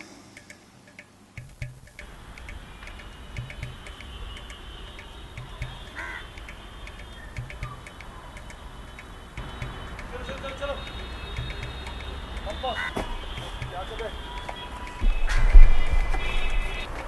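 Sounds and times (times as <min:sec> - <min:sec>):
light clicks and ticks: 0:00.0 - 0:17.0.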